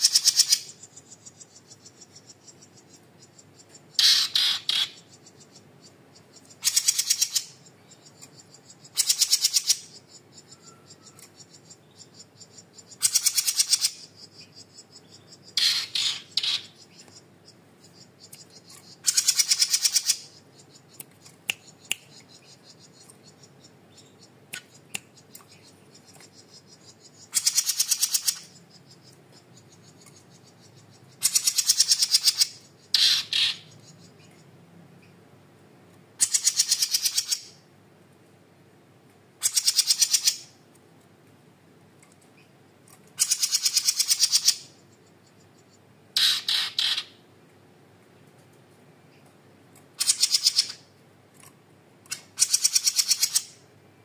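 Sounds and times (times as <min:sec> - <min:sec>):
songbird rattling trills: 0:00.0 - 0:34.5, 0:36.2 - 0:37.6, 0:39.4 - 0:40.6, 0:43.2 - 0:47.2, 0:50.0 - 0:50.9, 0:52.1 - 0:53.6.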